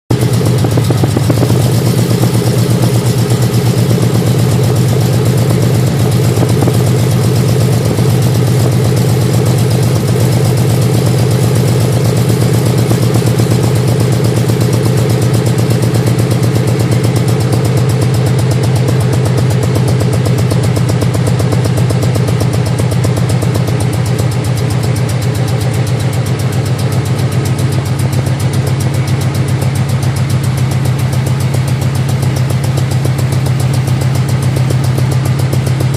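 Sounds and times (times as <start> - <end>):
engine idling with fast pulsing: 0.1 - 35.9.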